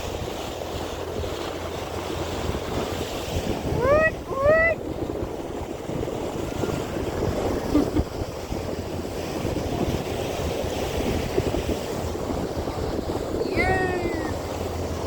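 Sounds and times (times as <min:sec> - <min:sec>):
ocean waves: 0:00.0 - 0:15.0
wind buffeting microphone: 0:00.0 - 0:15.0.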